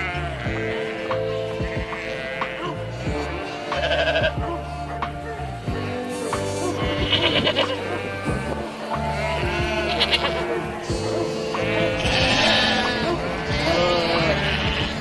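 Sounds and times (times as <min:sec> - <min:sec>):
background music with low notes: 0:00.0 - 0:15.0
sheep bleating: 0:00.0 - 0:15.0.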